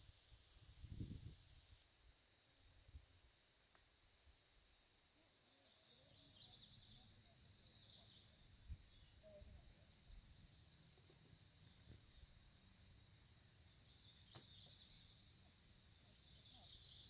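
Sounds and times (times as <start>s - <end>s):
faint high hiss: 0.0s - 17.0s.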